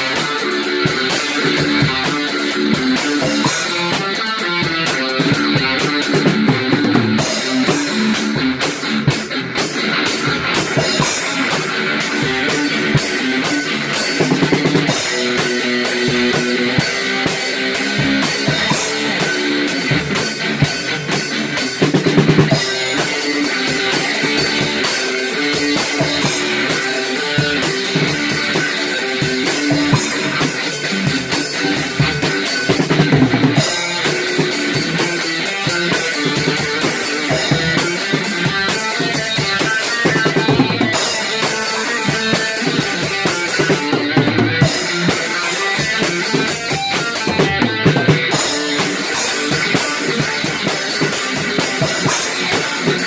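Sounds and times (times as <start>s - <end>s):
drum kit playing: 0.0s - 53.0s
electric guitar: 0.0s - 53.0s.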